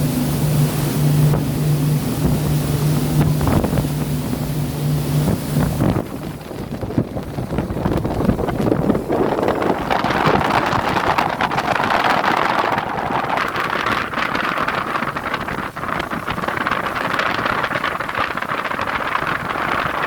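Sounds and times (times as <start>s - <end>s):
low hum: 0.0s - 20.0s
sea: 0.0s - 20.0s
wind buffeting microphone: 0.0s - 20.0s.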